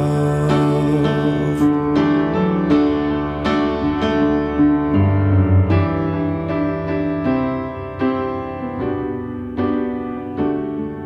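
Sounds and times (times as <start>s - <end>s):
slow piano piece: 0.0s - 11.0s.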